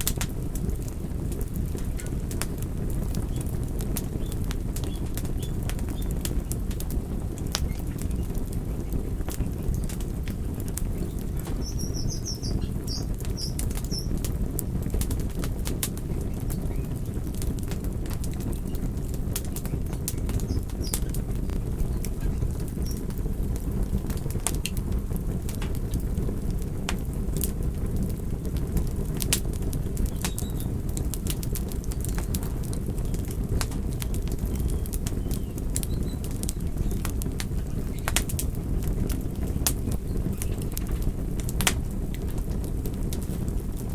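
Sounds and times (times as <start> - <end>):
campfire crackling and popping: 0.0 - 43.9
flames rushing: 0.0 - 43.9.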